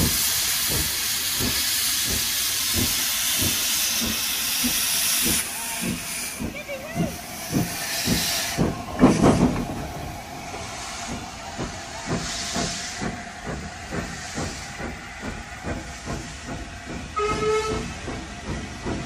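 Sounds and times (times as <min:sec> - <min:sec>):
steam locomotive hissing and chuffing: 0:00.0 - 0:19.0
train wheels clicking on rails: 0:00.0 - 0:19.0.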